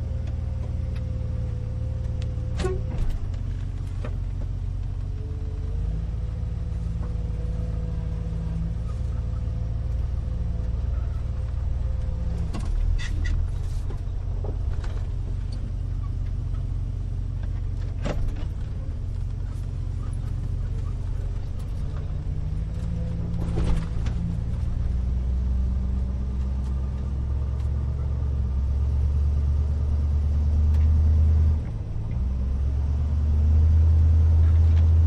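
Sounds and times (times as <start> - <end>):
engine and road rumble: 0.0 - 35.0.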